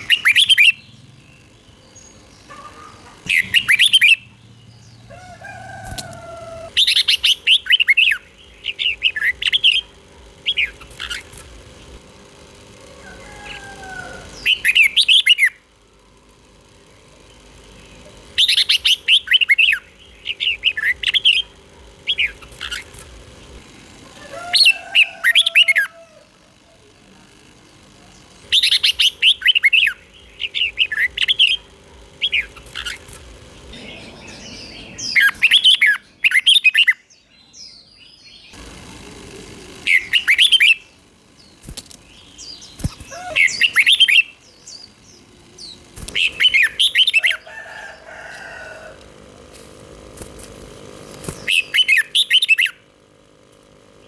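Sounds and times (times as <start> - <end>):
bird warbling song: 0.0 - 12.0, 12.8 - 15.8, 17.2 - 26.3, 28.1 - 38.7, 39.4 - 49.2, 51.1 - 53.2.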